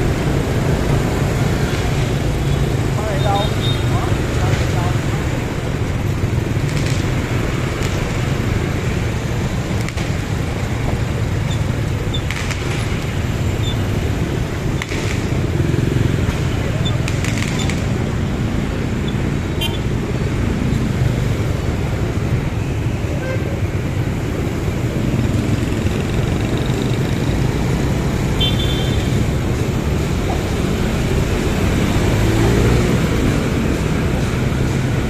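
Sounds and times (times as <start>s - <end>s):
traffic engine rumble: 0.0s - 35.0s.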